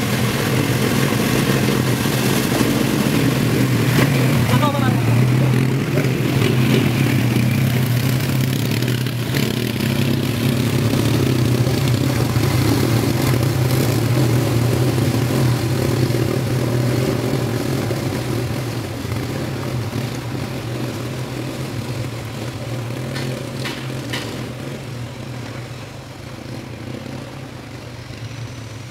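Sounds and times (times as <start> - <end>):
quad bike engines running: 0.0 - 28.9.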